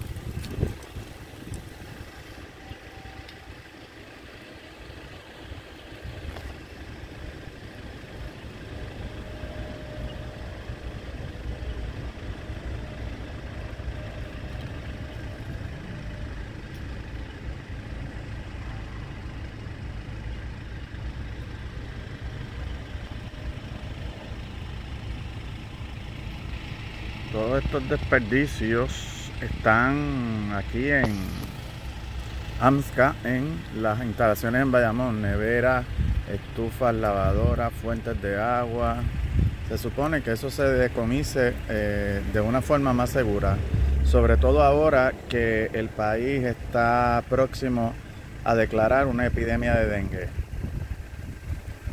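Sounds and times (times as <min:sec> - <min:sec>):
steady low rumble: 0:00.0 - 0:51.9.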